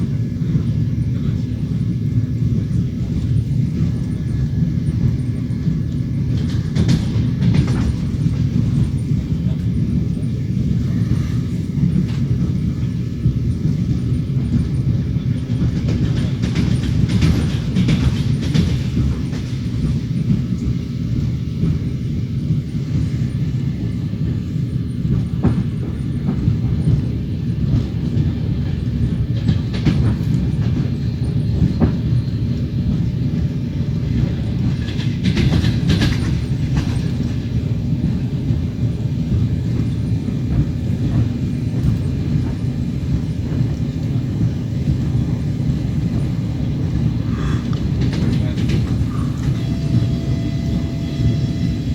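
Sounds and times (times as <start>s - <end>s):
train wheels rumbling on rails: 0.0s - 51.9s
wheels clacking over rail joints: 2.7s - 10.3s, 11.8s - 20.8s, 23.3s - 51.4s.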